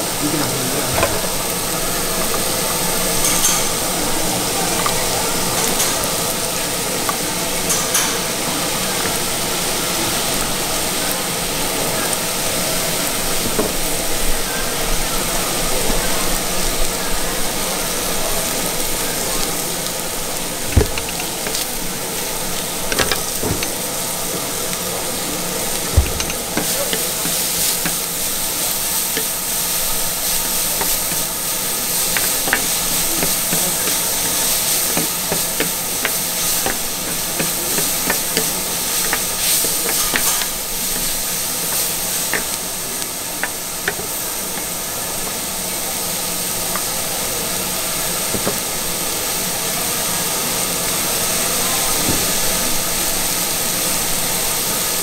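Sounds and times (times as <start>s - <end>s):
meat and noodles sizzling on griddle: 0.0s - 55.0s.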